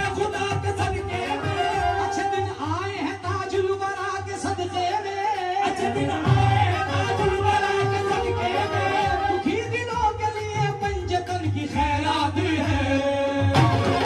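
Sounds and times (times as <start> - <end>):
harmonium melody: 0.0 - 14.0
tabla beat: 0.0 - 14.0.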